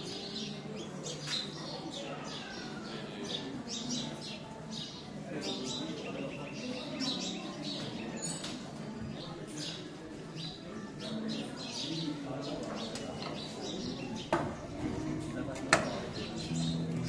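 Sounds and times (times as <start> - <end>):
murmur of voices: 0.0 - 17.0
small birds chirping: 0.0 - 17.0.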